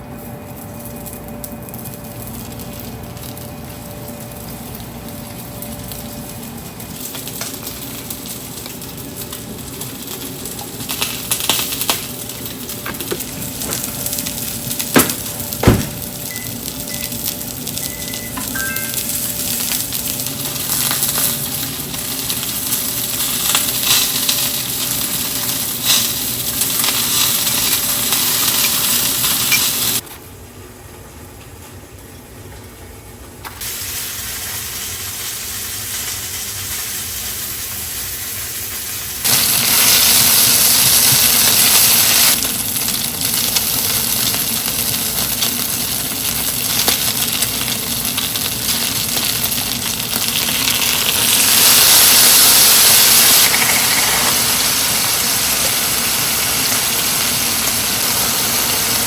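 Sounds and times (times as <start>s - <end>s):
food sizzling in a frying pan: 0.6s - 30.0s, 33.6s - 59.0s.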